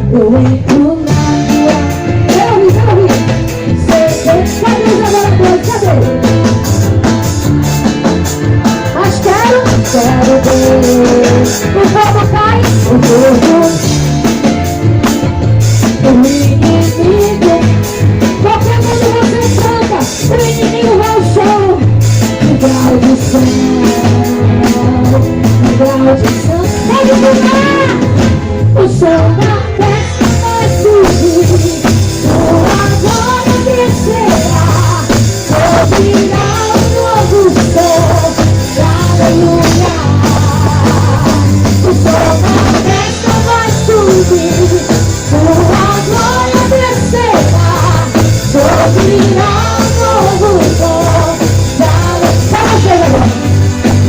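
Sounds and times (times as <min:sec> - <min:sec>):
person singing: 0:00.0 - 0:06.5, 0:08.6 - 0:53.9
bass: 0:00.0 - 0:54.0
drum kit: 0:00.0 - 0:54.0
worship band playing: 0:00.0 - 0:54.0.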